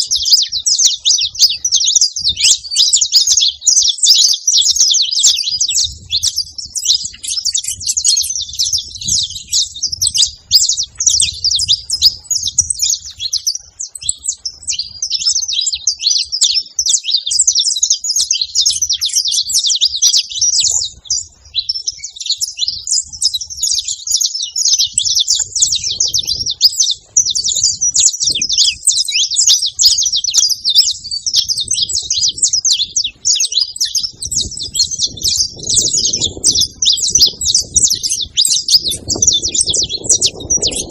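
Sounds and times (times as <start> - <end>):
finch singing and chirping: 0.0 - 40.9.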